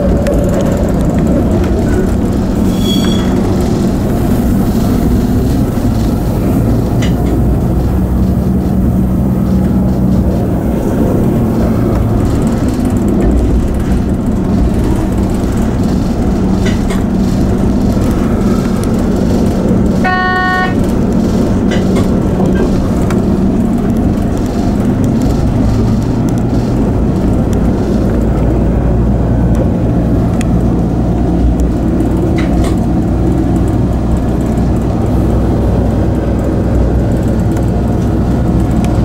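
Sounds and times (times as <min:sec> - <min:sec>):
low engine drone: 0:00.0 - 0:39.0
train rumbling on track: 0:00.0 - 0:39.0.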